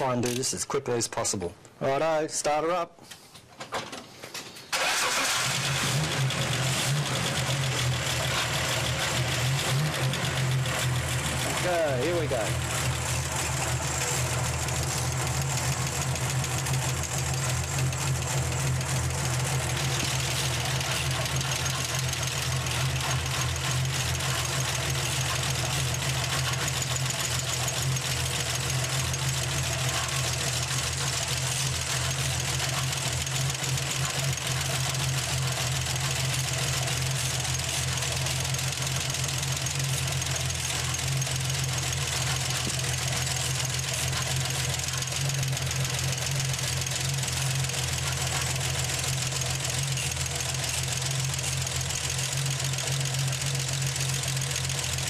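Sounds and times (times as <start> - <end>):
engine idling: 4.8 - 55.0.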